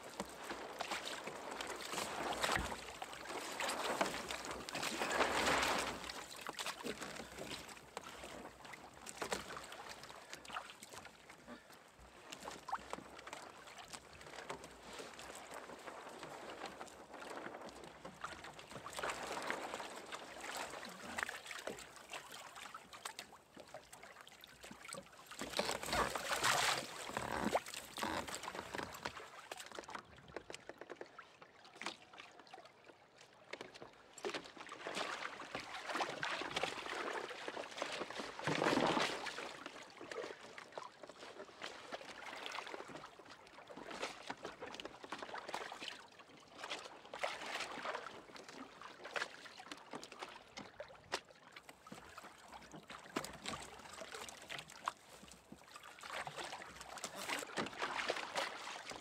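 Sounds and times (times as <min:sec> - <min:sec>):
water splashing against kayak hull: 0:00.0 - 0:59.0.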